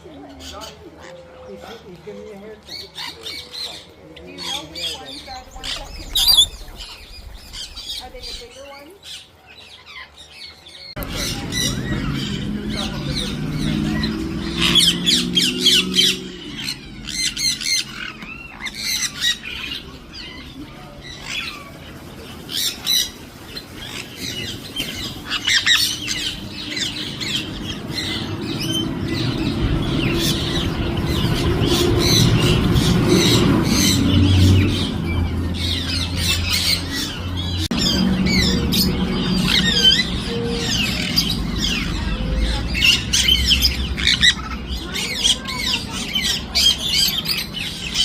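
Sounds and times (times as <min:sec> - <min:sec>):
parrots squawking: 0:02.7 - 0:48.0.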